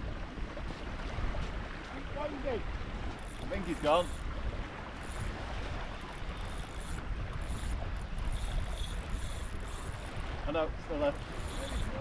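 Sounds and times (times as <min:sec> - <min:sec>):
surf on beach: 0:00.0 - 0:12.0
wind rumbling on microphone: 0:00.0 - 0:12.0.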